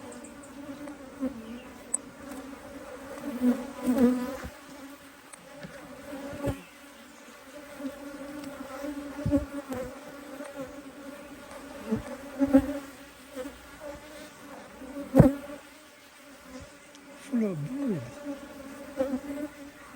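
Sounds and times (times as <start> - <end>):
bees buzzing: 0.0 - 19.9.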